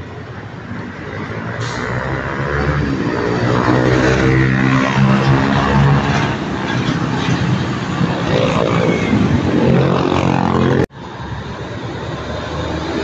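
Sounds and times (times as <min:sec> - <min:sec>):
heavy trucks passing: 0:00.0 - 0:13.0
truck engine running loudly: 0:00.0 - 0:13.0.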